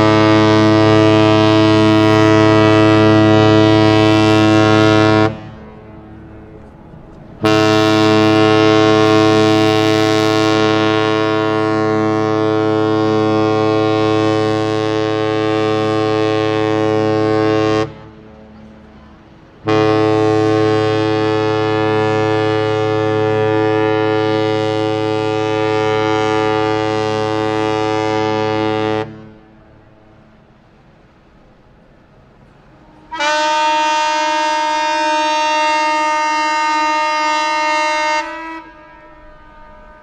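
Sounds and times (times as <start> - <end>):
deep ship horn blasts: 0.0 - 40.0.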